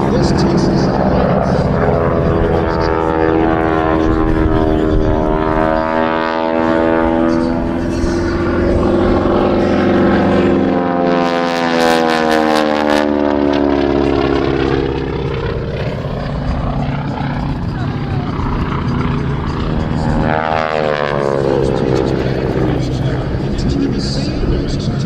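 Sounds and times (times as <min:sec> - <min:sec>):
propeller planes flying past: 0:00.0 - 0:25.0.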